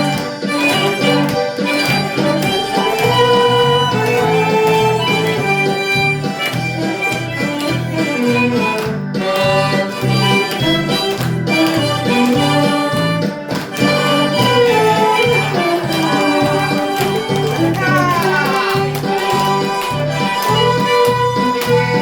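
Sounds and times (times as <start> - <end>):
harmonica playing slow melody: 0.0 - 22.0.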